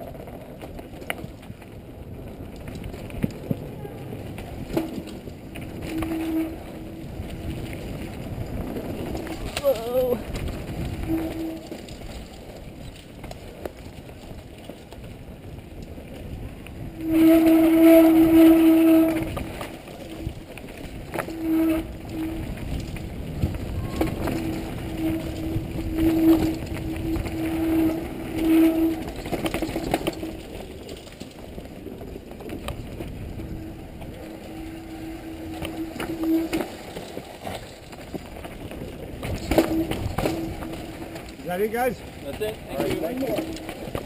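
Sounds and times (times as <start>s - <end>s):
bike rattling over bumps: 0.0s - 44.0s
bike tyres rumbling on dirt: 0.0s - 44.0s
wind buffeting microphone: 0.0s - 44.0s
steady humming tone: 3.6s - 13.1s, 16.4s - 44.0s.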